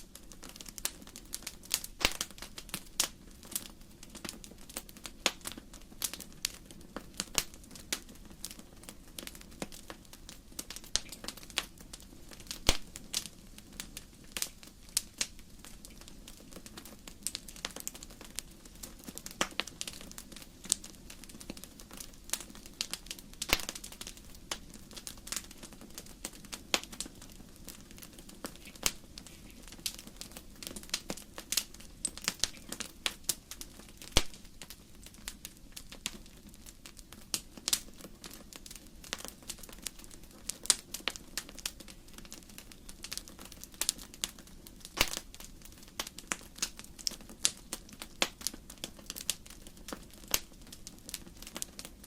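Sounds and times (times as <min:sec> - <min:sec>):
firewood crackling in a fireplace: 0:00.0 - 0:52.0.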